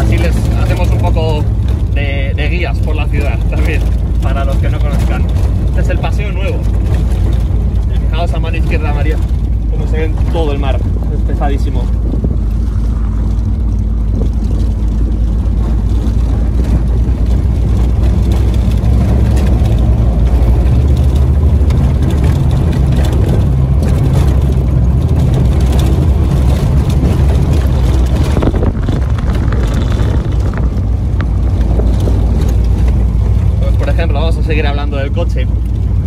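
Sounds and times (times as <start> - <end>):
car engine rumbling: 0.0 - 36.0
wind buffeting microphone: 0.0 - 36.0.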